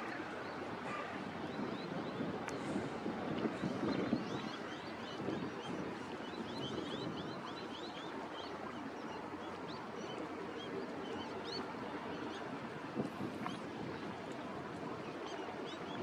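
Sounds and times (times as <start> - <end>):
low rumble of wind: 0.0 - 16.0.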